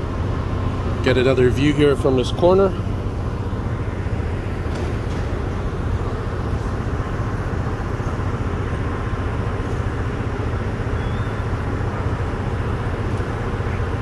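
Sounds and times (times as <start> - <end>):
city background rumble: 0.0 - 14.0.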